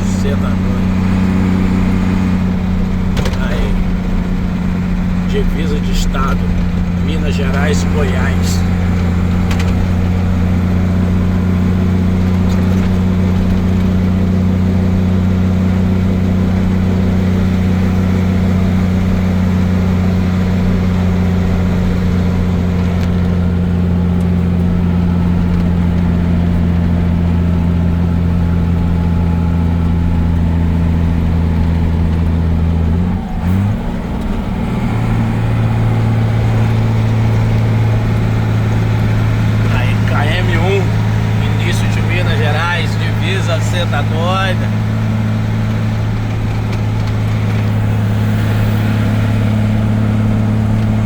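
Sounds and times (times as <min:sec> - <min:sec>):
truck engine droning: 0:00.0 - 0:51.0.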